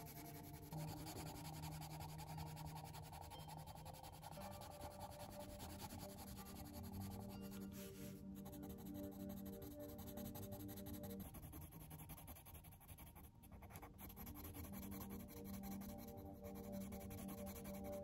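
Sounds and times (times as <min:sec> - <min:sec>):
coloured pencil scratching on paper: 0:00.0 - 0:18.0
soft background music: 0:00.0 - 0:18.0.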